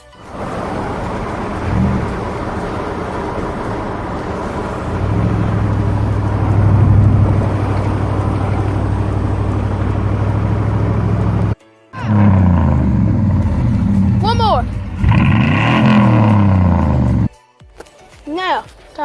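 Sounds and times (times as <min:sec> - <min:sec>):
pickup truck engine running: 0:00.0 - 0:17.3.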